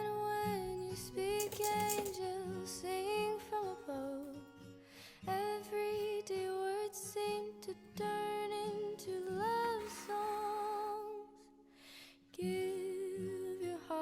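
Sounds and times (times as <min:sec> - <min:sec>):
slow song with singer: 0:00.0 - 0:14.0.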